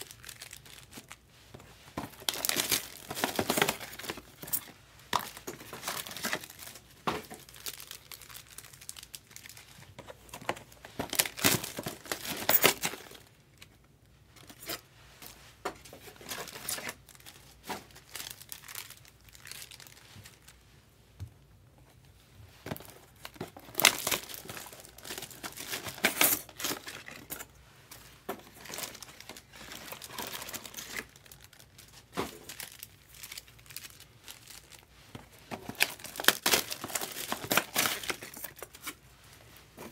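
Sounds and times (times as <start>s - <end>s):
card wrappers tearing and crinkling: 0.0s - 1.3s, 2.0s - 13.4s, 15.9s - 20.6s, 22.7s - 27.4s, 28.4s - 39.0s.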